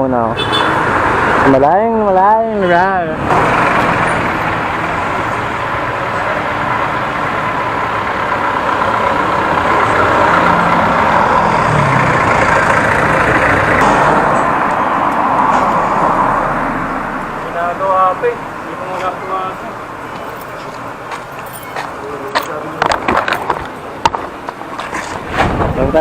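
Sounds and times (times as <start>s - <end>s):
road noise: 0.0s - 26.0s.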